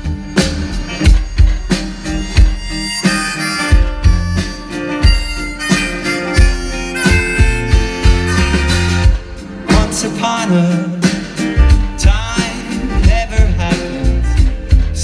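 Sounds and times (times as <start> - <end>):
live band playing folk-pop: 0.0 - 15.0
steady drum beat: 0.0 - 15.0.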